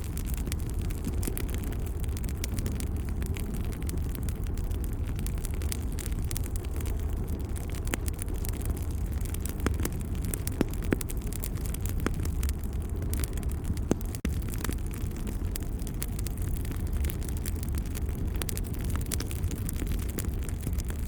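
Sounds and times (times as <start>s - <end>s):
low rumble of flames: 0.0s - 21.0s
sharp snaps of fire: 0.0s - 21.0s
wood fire crackling: 0.0s - 21.0s.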